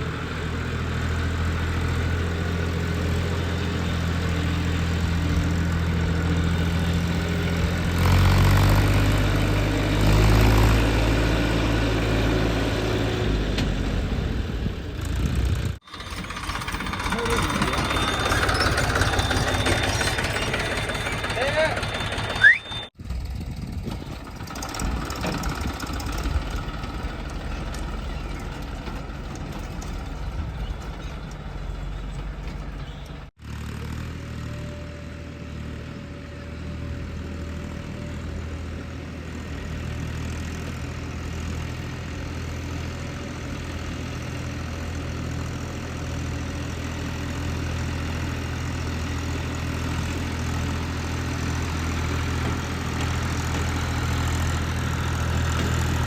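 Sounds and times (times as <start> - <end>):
heavy diesel engine idling: 0.0 - 8.1, 11.4 - 33.3, 36.1 - 56.0.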